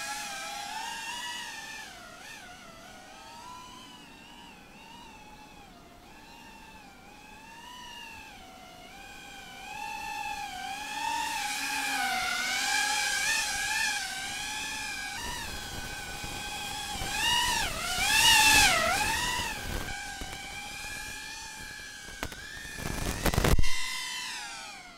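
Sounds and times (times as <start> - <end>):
drone propellers buzzing whine: 0.0 - 24.9.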